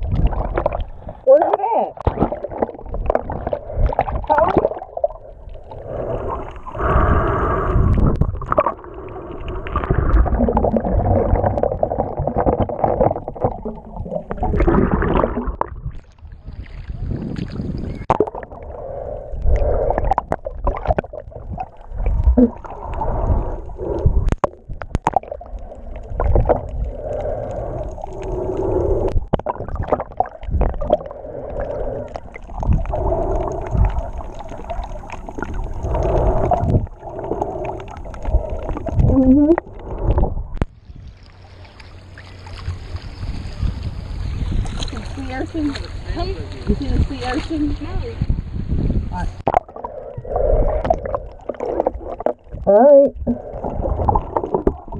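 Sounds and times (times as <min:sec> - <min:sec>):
muffled water sloshing and gurgling: 0:00.0 - 0:54.9.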